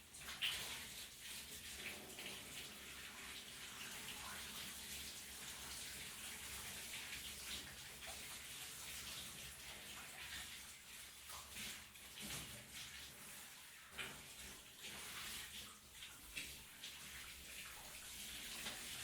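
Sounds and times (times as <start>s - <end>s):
shower water spraying and splashing: 0.0s - 19.0s.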